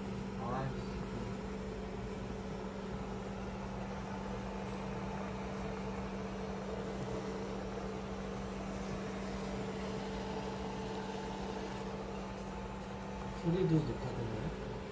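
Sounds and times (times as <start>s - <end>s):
induction cooktop humming: 0.0s - 14.9s.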